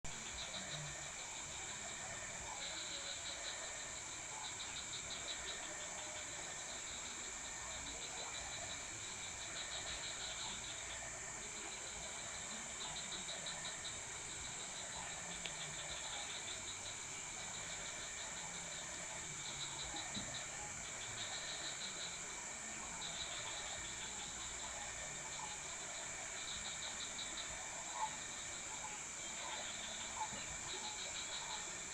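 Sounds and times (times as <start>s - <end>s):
pulsing cricket-like trill: 0.1s - 31.9s.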